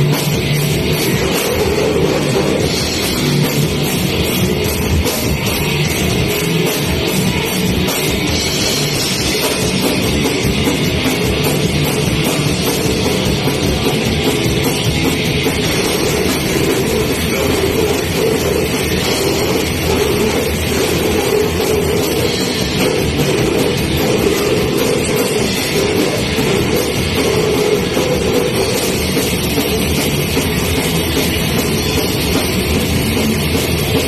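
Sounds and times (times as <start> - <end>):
distorted electric guitars: 0.0 - 34.0
drum kit: 0.0 - 34.0.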